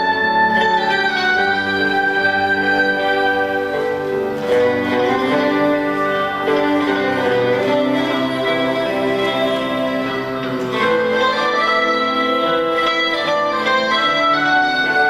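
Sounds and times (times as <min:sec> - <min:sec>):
instrumental ensemble music: 0:00.0 - 0:15.0.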